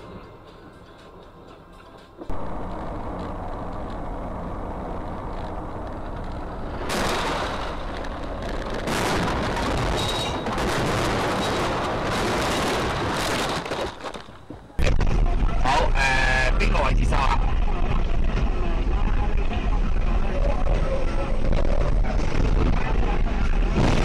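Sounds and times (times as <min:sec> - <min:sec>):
car engine and road noise: 0:00.0 - 0:24.0
crackling clattering crash: 0:02.3 - 0:24.0.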